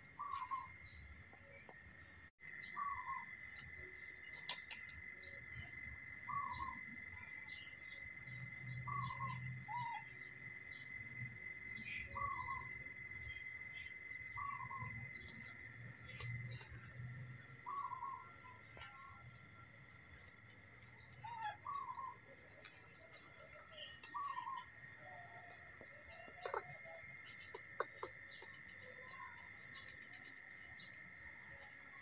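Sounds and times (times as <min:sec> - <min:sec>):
faint short chirping calls: 0:00.0 - 0:32.0.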